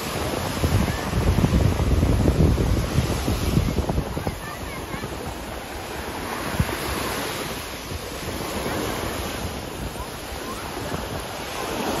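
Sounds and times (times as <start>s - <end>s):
surf washing up a beach: 0.0s - 12.0s
wind buffeting microphone: 0.0s - 12.0s.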